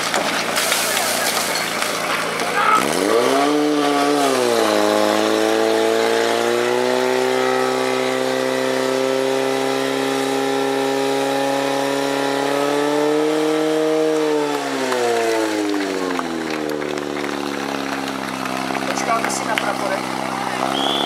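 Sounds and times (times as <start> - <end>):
pump engine running at high revs: 0.0 - 21.0.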